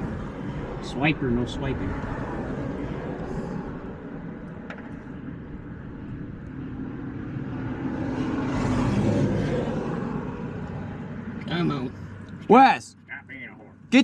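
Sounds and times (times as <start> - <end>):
engine passing by: 0.0 - 12.5.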